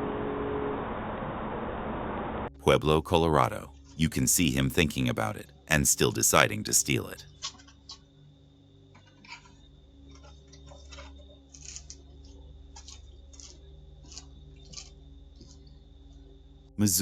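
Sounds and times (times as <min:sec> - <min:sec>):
electrical hum with high whine: 0:00.0 - 0:17.0.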